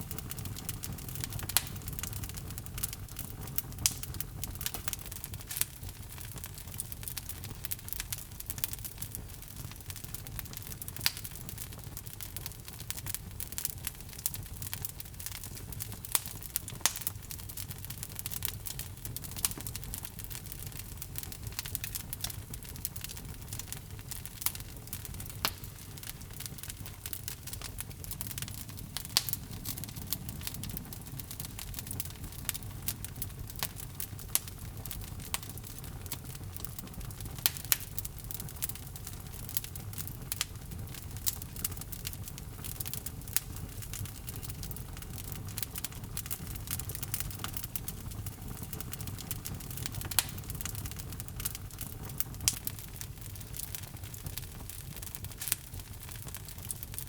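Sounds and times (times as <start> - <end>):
log fire burning: 0.0 - 57.0.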